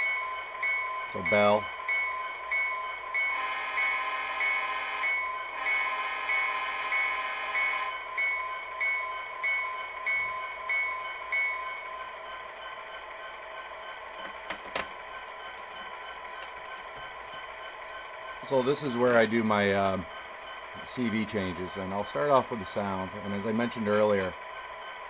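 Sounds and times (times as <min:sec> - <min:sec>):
model locomotive bell ringing: 0:00.0 - 0:25.0.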